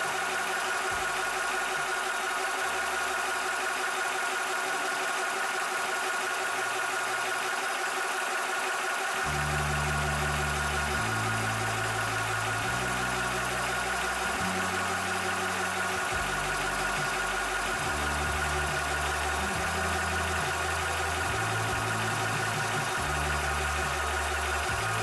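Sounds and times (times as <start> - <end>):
air compressor humming: 0.0 - 25.0.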